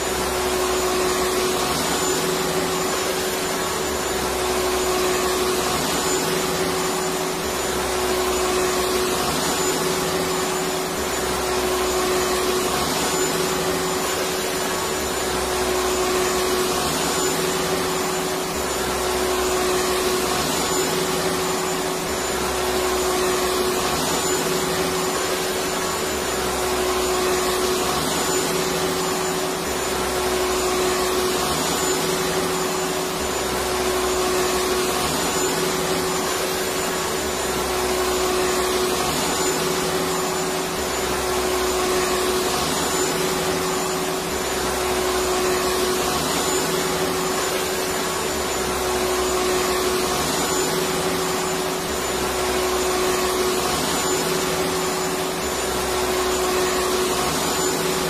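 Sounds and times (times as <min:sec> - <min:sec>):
faint high whine: 0:00.0 - 0:58.0
vacuum cleaner running: 0:00.0 - 0:58.0.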